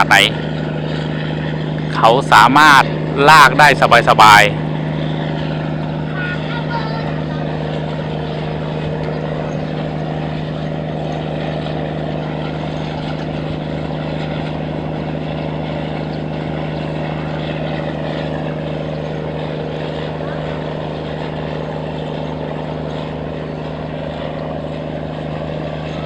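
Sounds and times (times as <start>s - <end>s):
tugboat engine droning: 0.0s - 26.0s.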